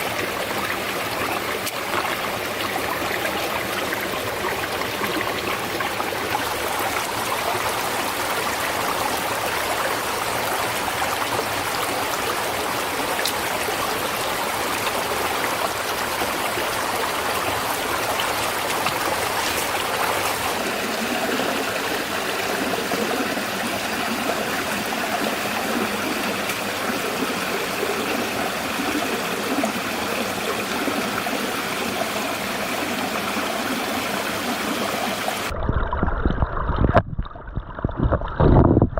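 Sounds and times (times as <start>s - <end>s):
stream water rushing: 0.0s - 35.5s.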